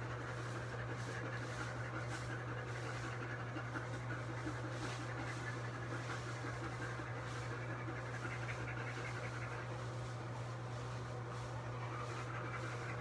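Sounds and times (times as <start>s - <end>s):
dog panting: 0.0s - 13.0s
low hum: 0.0s - 13.0s.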